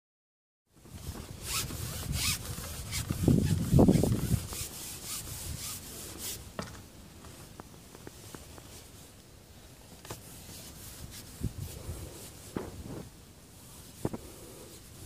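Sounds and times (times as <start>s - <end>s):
rubbing and scraping from handling: 0.9s - 9.2s, 9.9s - 15.0s.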